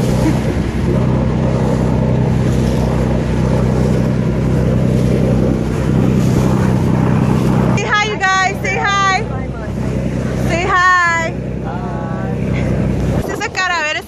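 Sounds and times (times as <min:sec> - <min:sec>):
motorboat engine humming: 0:00.0 - 0:14.0
water rushing along hull: 0:00.0 - 0:14.0.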